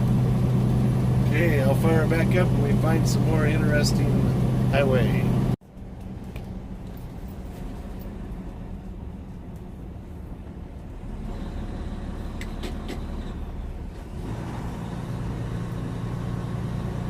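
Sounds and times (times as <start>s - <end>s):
diesel truck engine droning: 0.0s - 17.0s
road noise in cab: 0.0s - 17.0s.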